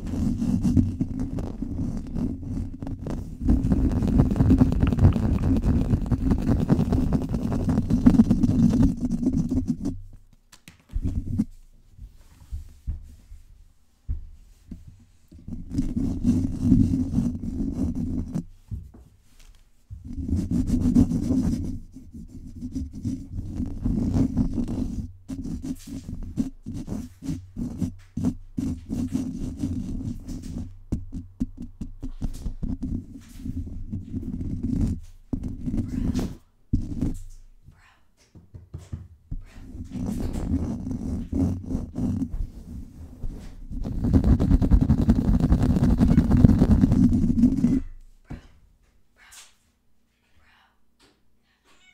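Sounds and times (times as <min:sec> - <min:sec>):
fingers scratching on microphone: 0:00.0 - 0:10.3, 0:10.9 - 0:13.5, 0:14.7 - 0:18.7, 0:19.4 - 0:37.5, 0:39.3 - 0:48.0.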